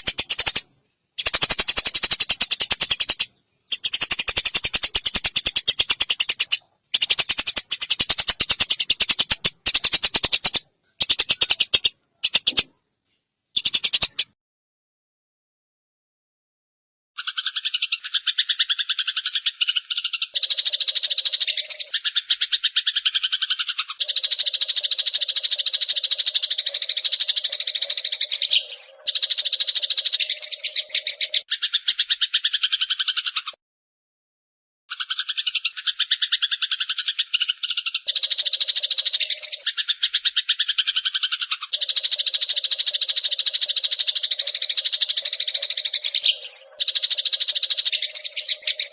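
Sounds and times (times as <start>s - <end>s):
sparrows chirping harshly: 0.0s - 12.7s, 13.6s - 14.4s, 17.2s - 33.6s, 34.9s - 48.9s.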